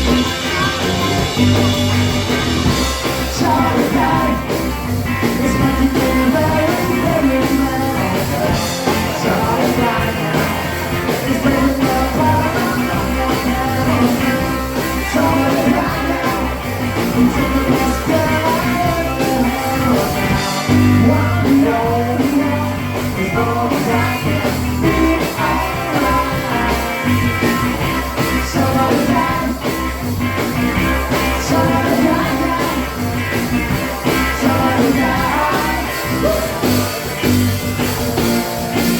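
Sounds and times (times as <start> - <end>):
guitar: 0.0 - 38.9
rock band playing: 0.0 - 38.9
steady drum beat: 0.0 - 38.9
person singing: 2.9 - 29.9, 30.9 - 37.0.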